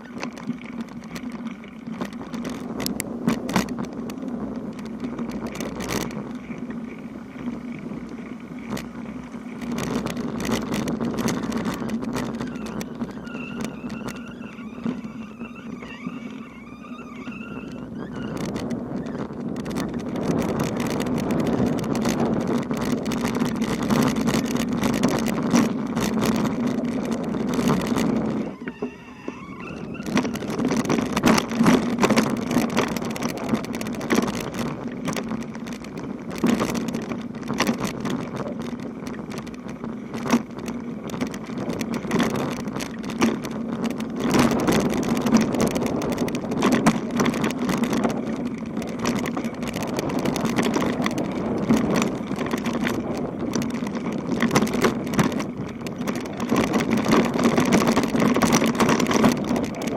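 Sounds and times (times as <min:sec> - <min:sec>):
bicycle rolling over rough road: 0:00.0 - 0:59.9.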